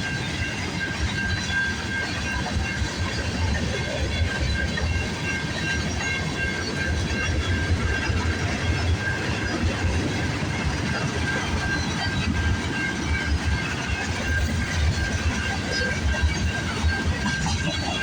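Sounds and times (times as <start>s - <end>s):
high ringing from train wheels: 0.0s - 18.0s
train wheels rumbling on rails: 0.0s - 18.0s.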